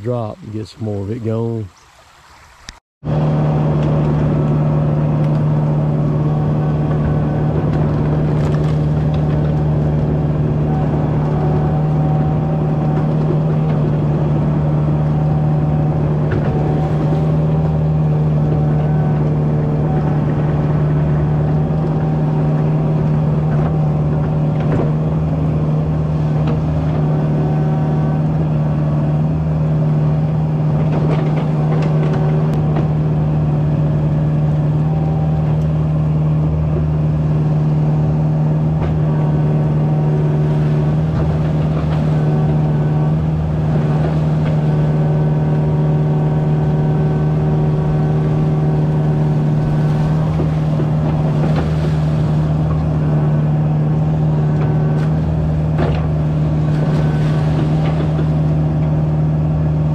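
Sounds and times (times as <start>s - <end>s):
diesel engine running: 0.0s - 1.7s, 3.0s - 59.9s
hydraulic whine: 2.2s - 59.9s.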